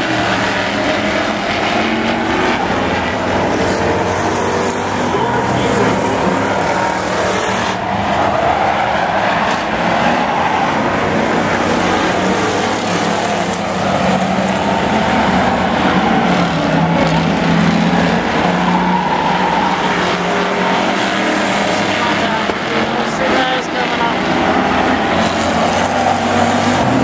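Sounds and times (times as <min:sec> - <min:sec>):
pickup truck engines racing: 0:00.0 - 0:27.0.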